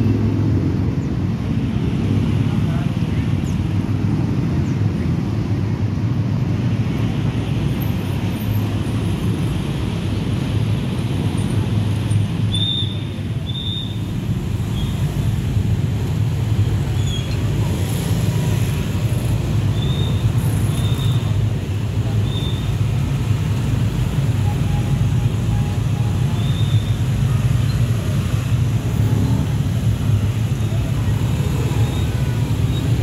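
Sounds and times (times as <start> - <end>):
scooters and motorcycles rumbling: 0.0 - 33.0.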